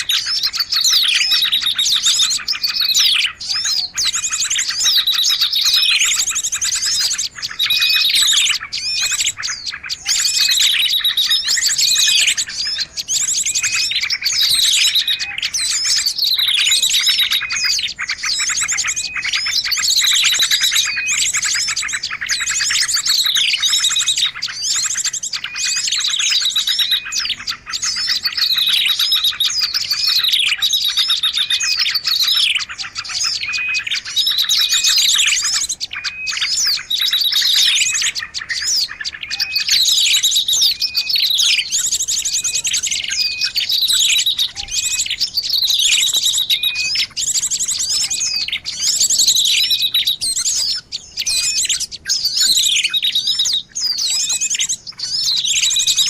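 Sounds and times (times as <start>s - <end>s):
songbird whistles and trills: 0.0s - 56.0s.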